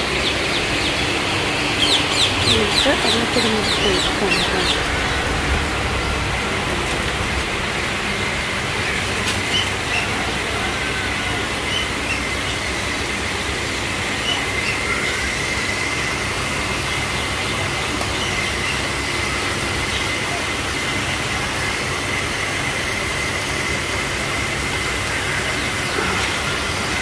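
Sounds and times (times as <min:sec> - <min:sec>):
rushing outdoor noise: 0:00.0 - 0:27.0.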